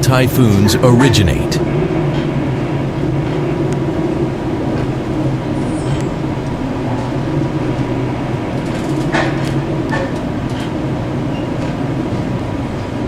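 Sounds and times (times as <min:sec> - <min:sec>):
sea noise: 0:00.0 - 0:13.0
ship engine drone: 0:00.0 - 0:13.0
wind: 0:00.0 - 0:13.0.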